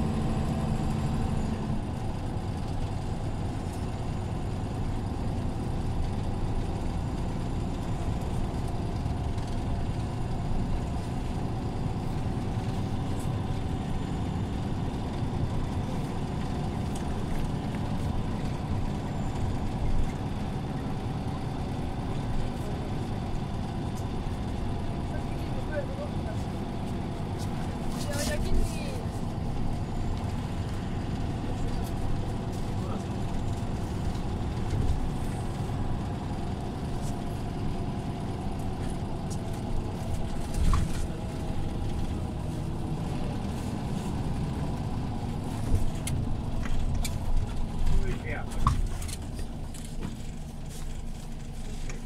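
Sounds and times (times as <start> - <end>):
bus engine drone: 0.0 - 52.0.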